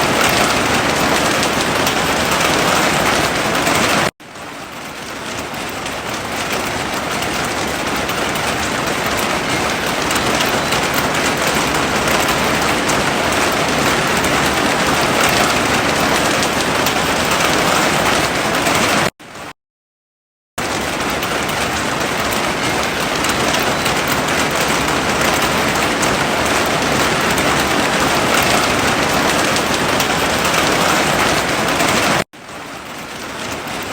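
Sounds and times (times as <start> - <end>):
heavy rain falling: 0.0 - 19.5, 20.6 - 33.9.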